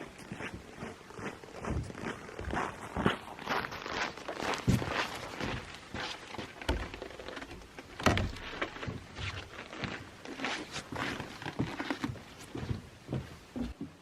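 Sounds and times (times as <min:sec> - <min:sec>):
footsteps with thuds: 0:00.0 - 0:14.0.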